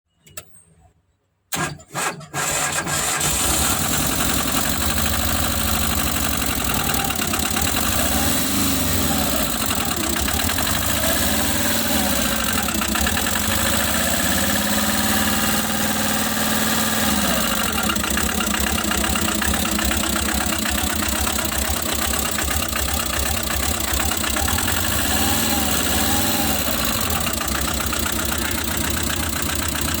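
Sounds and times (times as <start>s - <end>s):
engine cranking: 1.5s - 30.0s
knocking engine running: 3.2s - 30.0s.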